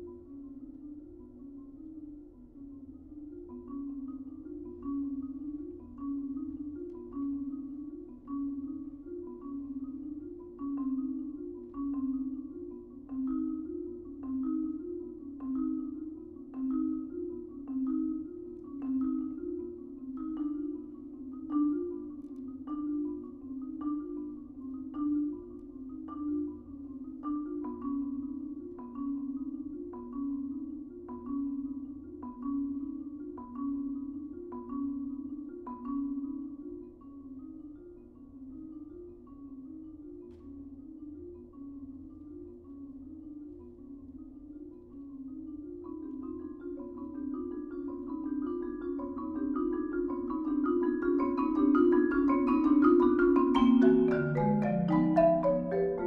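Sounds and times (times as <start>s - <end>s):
marimbas with soft mallets: 0.0s - 56.0s.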